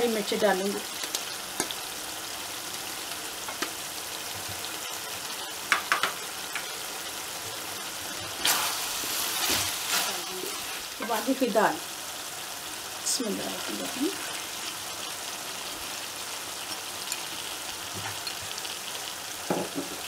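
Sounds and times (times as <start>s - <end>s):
meat sizzling in a pan: 0.0s - 20.0s.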